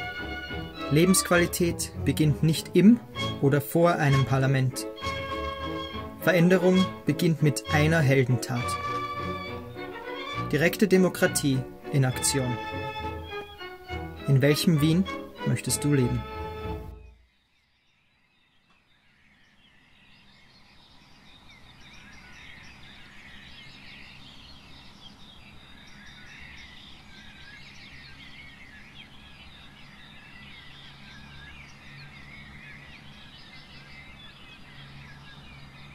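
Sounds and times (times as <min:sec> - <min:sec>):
birds chirping chorus: 0:00.0 - 0:35.9.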